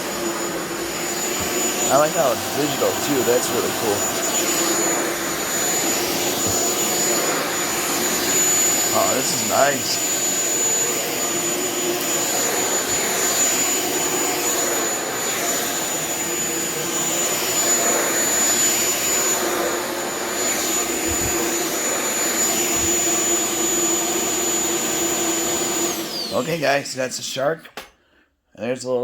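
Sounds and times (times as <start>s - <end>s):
stick vacuum running: 0.0s - 26.6s.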